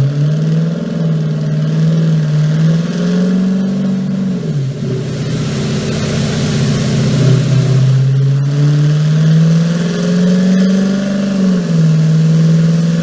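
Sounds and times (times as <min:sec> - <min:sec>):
car engine at light throttle: 0:00.0 - 0:13.0.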